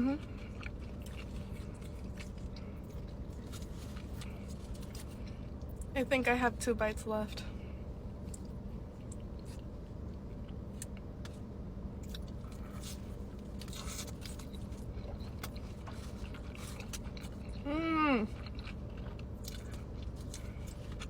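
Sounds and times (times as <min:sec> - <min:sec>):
close chewing with crunching: 0:00.0 - 0:05.9, 0:08.2 - 0:21.0
steady low background hum: 0:00.0 - 0:21.0.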